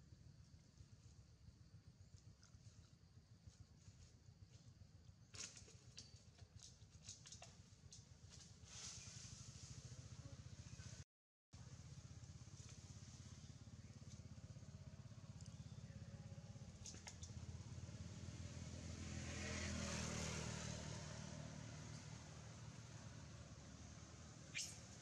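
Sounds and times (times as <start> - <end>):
faint vehicle engine running: 0.3 - 11.0, 11.6 - 25.0.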